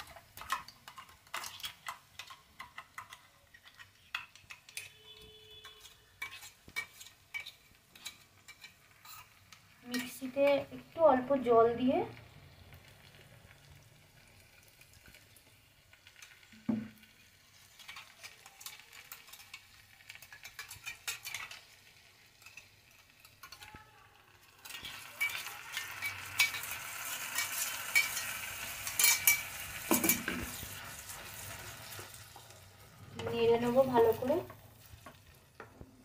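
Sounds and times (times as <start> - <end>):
oil sizzling in a frying pan: 0.0 - 36.0.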